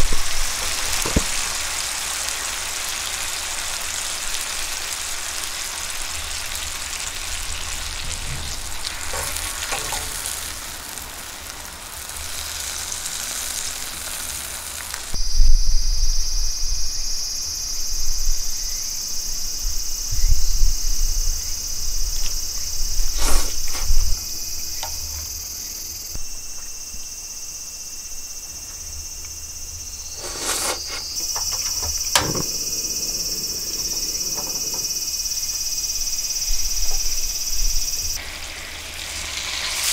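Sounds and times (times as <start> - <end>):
beef sizzling in a pan: 0.0 - 16.3, 16.9 - 27.1, 28.7 - 39.9
insect chirring: 0.0 - 39.9.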